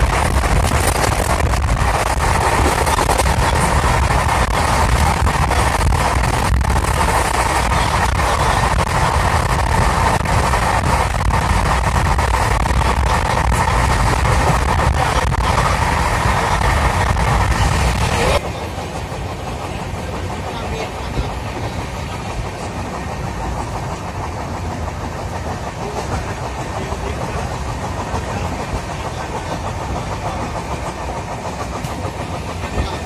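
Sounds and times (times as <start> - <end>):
rushing air: 0.0 - 33.0
train wheels rumbling on rail: 0.0 - 33.0.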